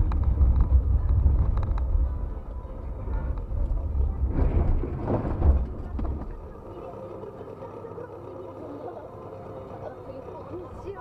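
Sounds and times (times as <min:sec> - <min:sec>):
moving vehicle rumble: 0:00.0 - 0:11.0.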